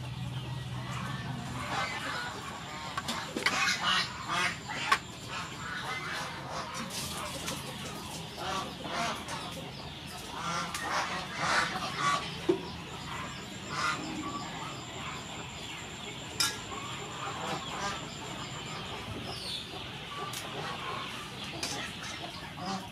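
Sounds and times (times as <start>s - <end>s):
domestic fowl calling: 0.4s - 7.8s, 8.4s - 22.9s.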